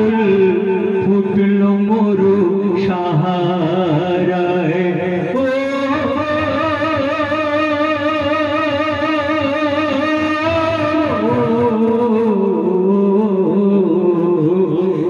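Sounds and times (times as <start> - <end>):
man singing through loudspeakers: 0.0 - 15.0.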